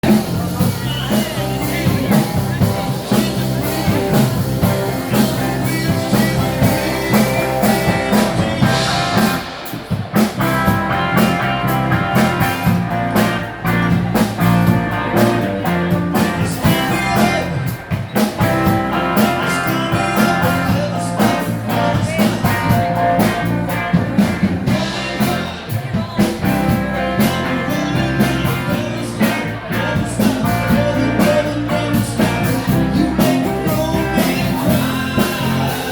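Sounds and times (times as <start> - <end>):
loud rock music with singing: 0.0 - 35.9.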